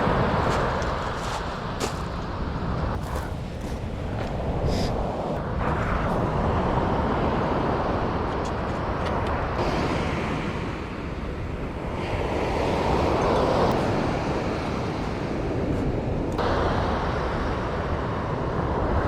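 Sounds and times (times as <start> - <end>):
waves washing onto beach: 0.0 - 19.0
wind rumbling on microphone: 0.0 - 19.0.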